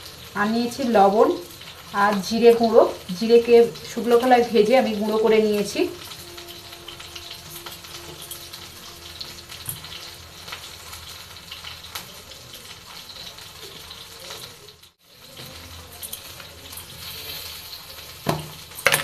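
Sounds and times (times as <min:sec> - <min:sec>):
pan sizzling: 0:00.0 - 0:19.0.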